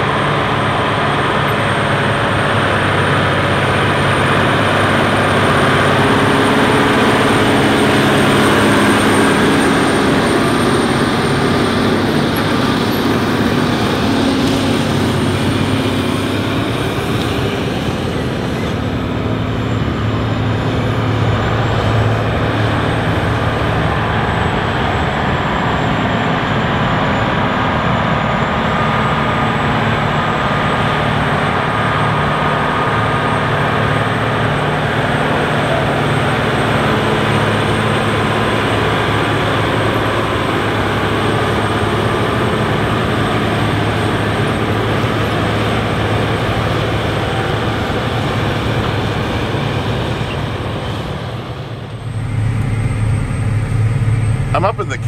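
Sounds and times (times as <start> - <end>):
diesel tractor under heavy load: 0.0 - 55.0.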